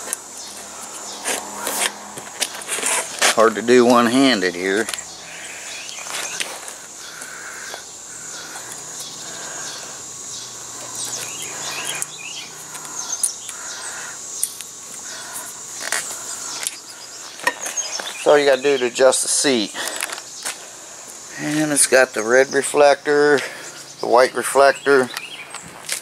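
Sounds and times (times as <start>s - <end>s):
birds chirping: 0.0s - 2.7s, 3.4s - 25.8s
high insect buzz: 0.0s - 26.0s.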